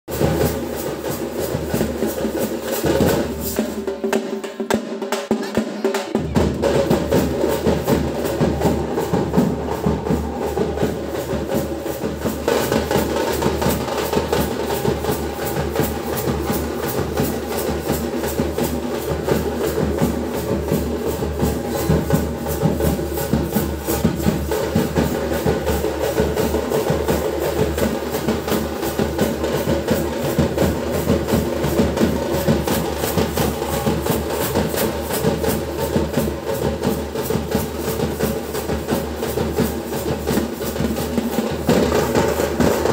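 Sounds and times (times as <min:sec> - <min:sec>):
drums beating fast rhythm: 0:00.1 - 0:42.9.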